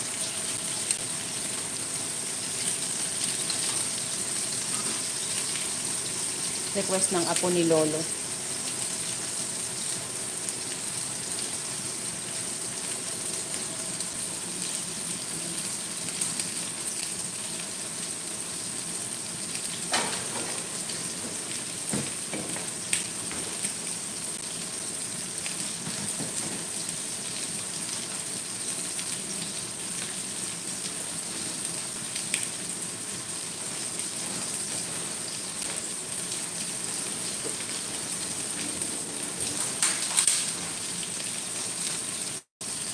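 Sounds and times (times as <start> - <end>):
chicken sizzling in oil: 0.0 - 42.9.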